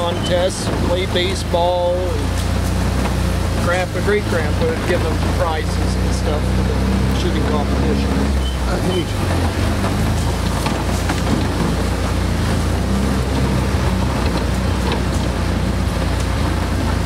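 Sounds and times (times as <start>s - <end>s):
vehicle body rattling: 0.0s - 17.0s
vehicle engine rumbling: 0.0s - 17.0s.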